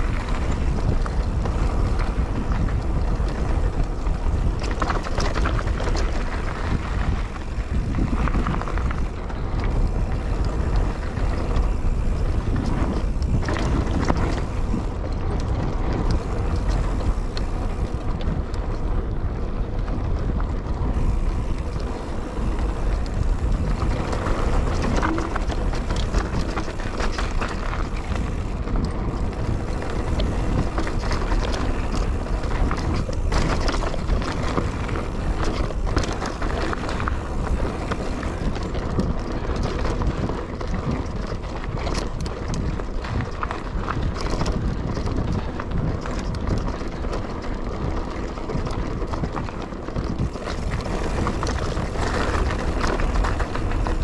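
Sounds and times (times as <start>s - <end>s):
bike rattling over bumps: 0.0s - 54.0s
bike tyres on dirt: 0.0s - 54.0s
wind buffeting microphone: 0.0s - 54.0s.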